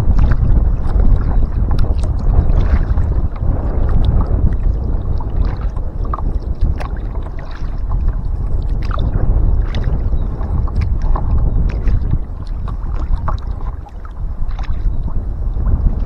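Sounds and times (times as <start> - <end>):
paddle splashes and drips: 0.0 - 16.0
wind and water rumble on microphone: 0.0 - 16.0.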